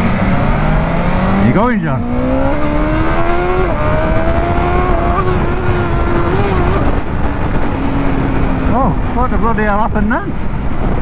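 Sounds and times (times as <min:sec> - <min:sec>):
motorcycle engine accelerating: 0:00.0 - 0:11.0
road rumble: 0:00.0 - 0:11.0
wind on microphone: 0:00.0 - 0:11.0.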